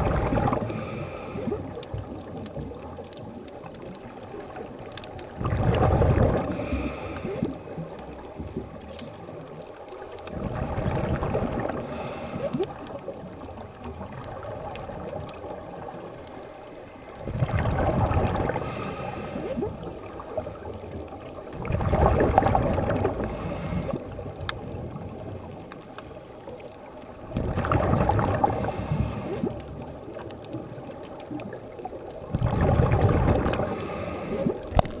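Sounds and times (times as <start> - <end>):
gurgling bubble bursts underwater: 0.0 - 16.4, 17.1 - 35.0
water noise: 0.0 - 35.0.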